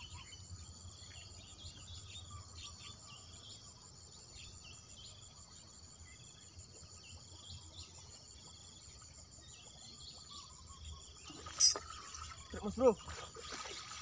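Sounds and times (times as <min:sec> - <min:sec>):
bird chirps: 0:00.0 - 0:14.0
insects trilling: 0:00.0 - 0:14.0.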